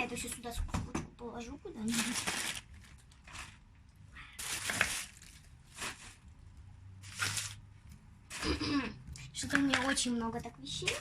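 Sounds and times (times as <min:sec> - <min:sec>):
rustling and crinkling of packed items: 0:01.4 - 0:07.7, 0:08.3 - 0:11.0.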